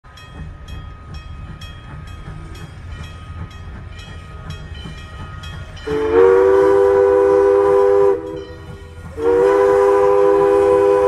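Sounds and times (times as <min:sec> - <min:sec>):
low locomotive rumble: 0:00.0 - 0:11.0
steam locomotive bell ringing: 0:00.0 - 0:11.0.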